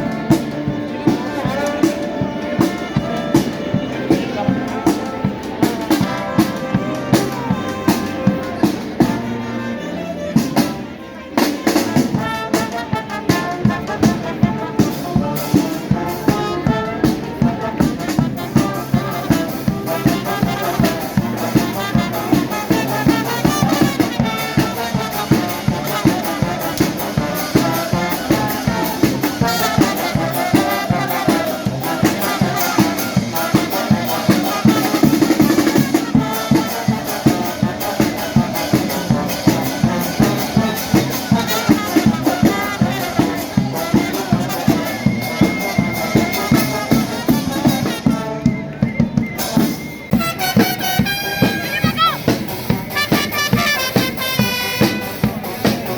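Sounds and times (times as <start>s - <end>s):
steady drumbeat: 0.0s - 9.5s, 10.3s - 55.9s
brass band playing: 0.0s - 55.9s.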